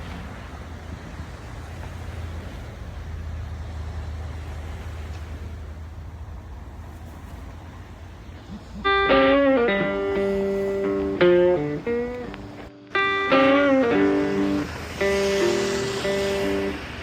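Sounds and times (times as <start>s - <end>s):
even rushing noise: 0.0s - 17.0s
vehicle engine rumble: 0.0s - 17.0s.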